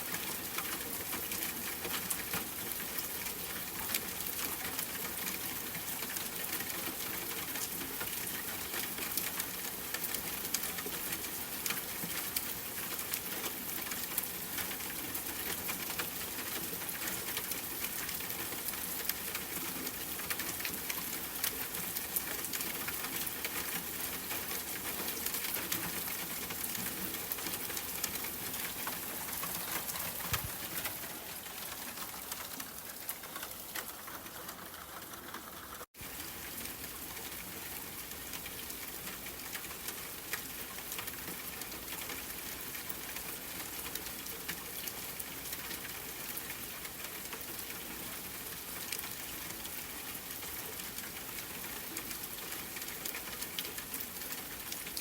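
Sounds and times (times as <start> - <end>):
raindrops ticking on surface: 0.0 - 55.0.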